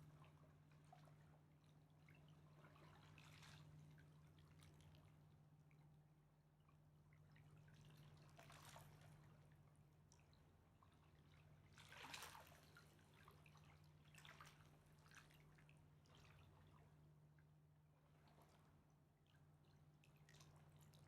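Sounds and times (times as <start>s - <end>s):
water lapping at the bank: 0.0s - 6.1s, 7.0s - 21.0s.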